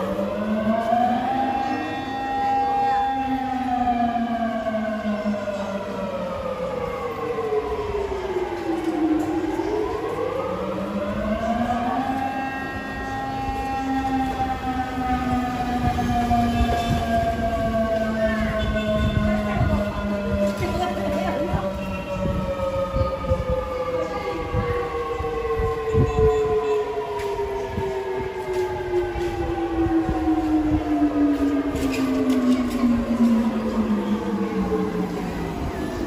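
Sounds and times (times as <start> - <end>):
warning siren wailing: 0.0 - 36.0.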